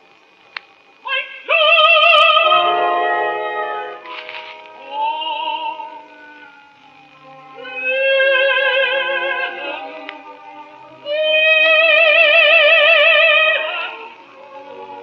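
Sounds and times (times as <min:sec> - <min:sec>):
quiet orchestra: 0:00.9 - 0:15.0
soprano singing high notes: 0:01.0 - 0:15.0.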